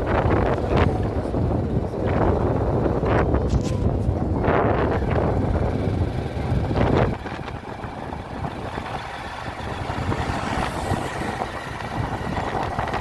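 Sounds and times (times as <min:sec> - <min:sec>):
road vehicle running: 0:00.0 - 0:13.0
wind buffeting microphone: 0:00.0 - 0:13.0.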